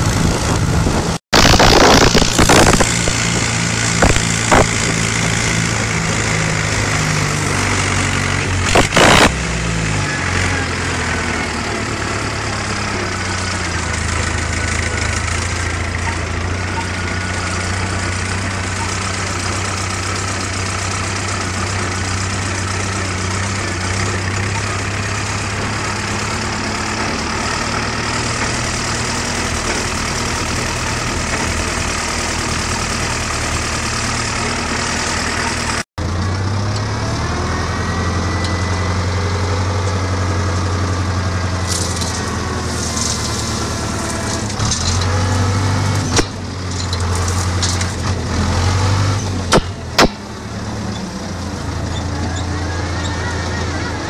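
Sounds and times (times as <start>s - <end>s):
tractor diesel engine idling: 2.8s - 8.7s, 9.4s - 54.0s.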